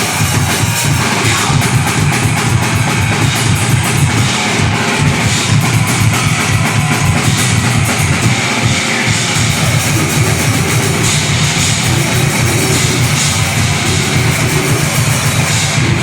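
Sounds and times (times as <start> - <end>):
fast drum kit: 0.0 - 16.0
metal band playing live: 0.0 - 16.0.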